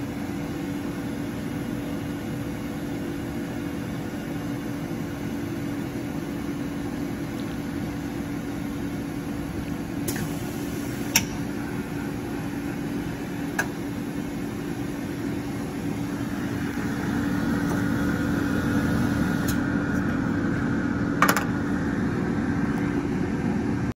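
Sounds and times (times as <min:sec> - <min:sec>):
high-pitched machine whine: 0:00.0 - 0:23.9
machine humming: 0:00.0 - 0:24.0.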